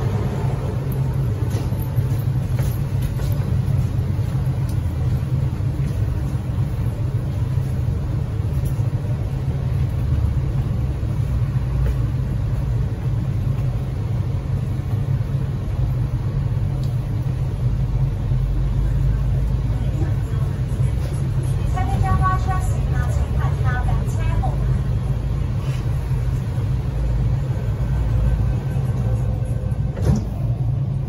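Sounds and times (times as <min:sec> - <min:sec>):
train carriage hum and rumble: 0:00.0 - 0:31.0.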